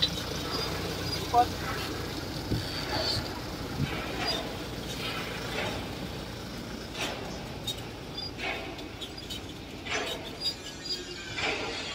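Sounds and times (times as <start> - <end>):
engine and tyre rumble: 0.0 - 11.9.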